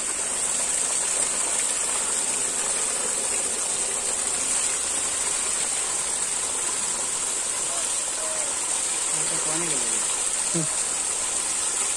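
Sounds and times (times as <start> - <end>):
water rushing over stone: 0.0 - 11.9.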